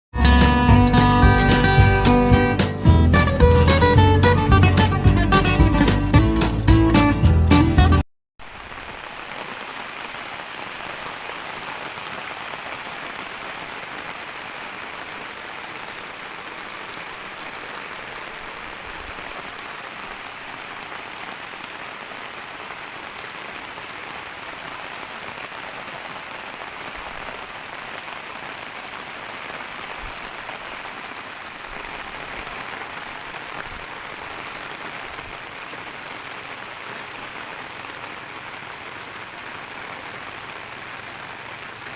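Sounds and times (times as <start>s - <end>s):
steady rain falling: 0.2s - 7.0s, 8.4s - 41.9s.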